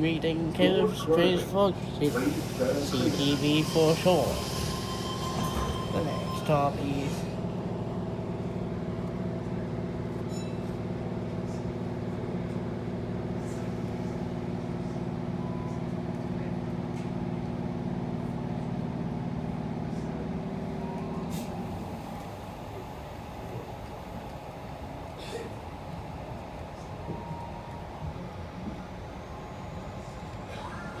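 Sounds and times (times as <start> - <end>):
train carriage rumble: 0.0 - 31.0.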